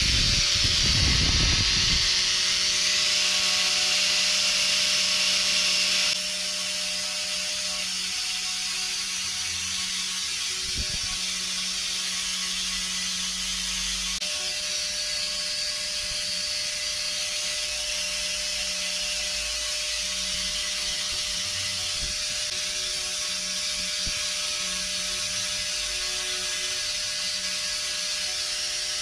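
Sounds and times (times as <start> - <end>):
power tool motor whining: 0.0 - 29.0.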